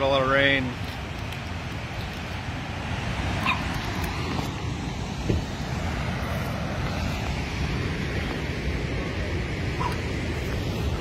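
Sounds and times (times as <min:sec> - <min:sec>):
river rushing in flood: 0:00.0 - 0:11.0.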